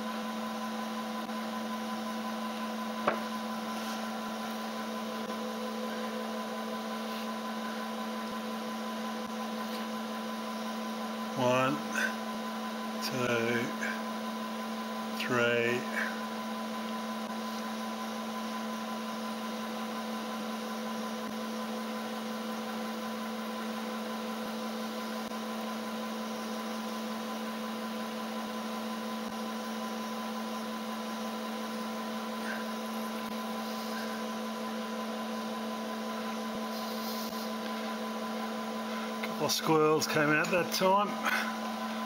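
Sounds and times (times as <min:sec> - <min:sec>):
milling machine spindle humming: 0:00.0 - 0:42.0.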